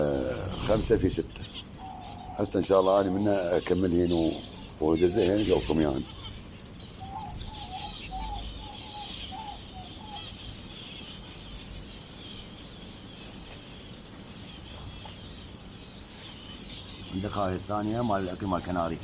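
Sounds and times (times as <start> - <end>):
finches chirping: 0.0 - 19.0
lower repeated bird call: 0.0 - 19.0.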